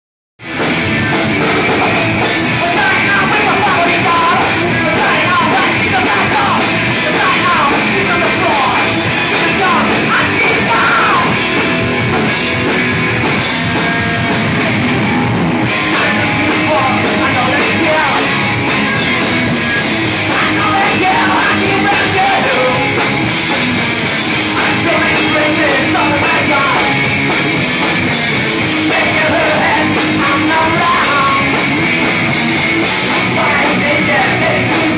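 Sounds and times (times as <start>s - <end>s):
rock band playing live: 0.4s - 34.9s.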